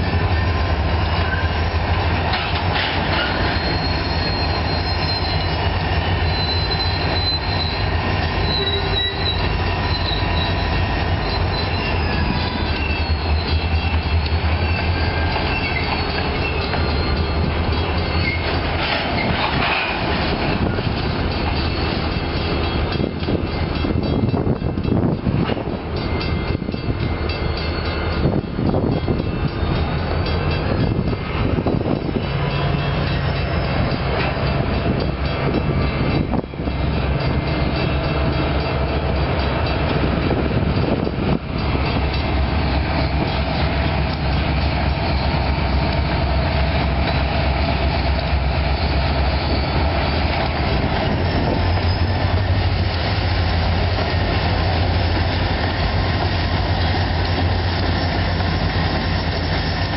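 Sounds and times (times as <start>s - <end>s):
low train rumble: 0.0s - 59.9s
train wheels clicking over rail joints: 0.8s - 59.9s.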